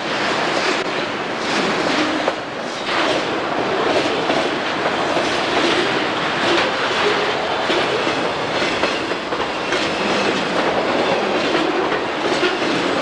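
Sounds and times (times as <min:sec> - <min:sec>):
train wheels rumbling on rail: 0:00.0 - 0:13.0
wheels clacking over rail joints: 0:00.8 - 0:13.0.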